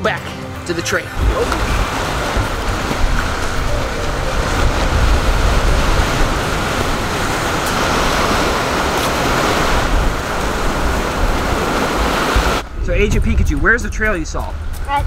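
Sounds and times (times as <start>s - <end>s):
ocean surf washing ashore: 0.6s - 13.2s
wind rumbling on microphone: 1.1s - 15.0s.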